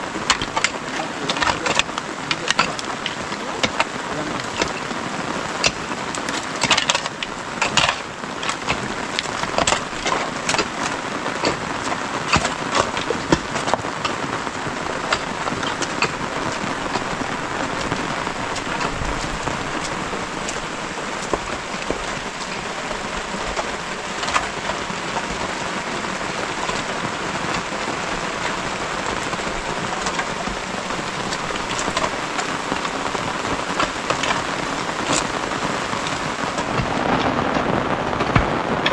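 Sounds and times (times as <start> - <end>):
rain on wet ground: 0.0 - 38.9
shovels scraping mud and stones: 0.2 - 35.4.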